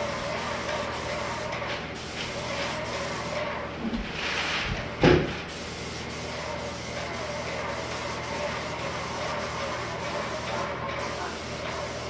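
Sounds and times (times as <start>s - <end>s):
paint sprayer hissing: 0.0s - 3.7s, 5.4s - 12.0s.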